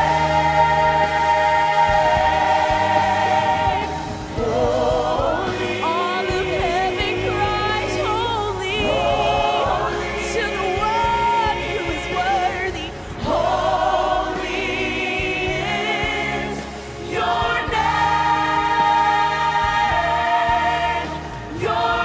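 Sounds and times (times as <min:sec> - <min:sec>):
vocal ensemble singing in harmony: 0:00.0 - 0:22.0.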